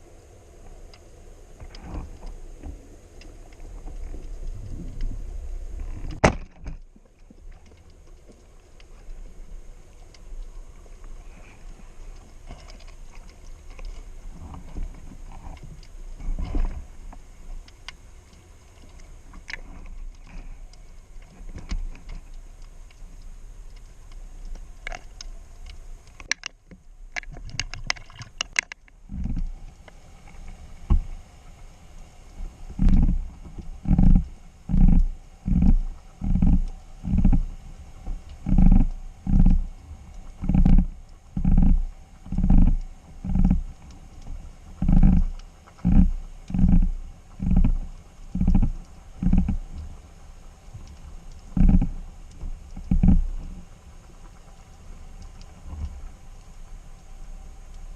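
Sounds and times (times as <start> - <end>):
low underwater rumble: 0.0 - 57.9
underwater crackling clicks: 0.0 - 57.9.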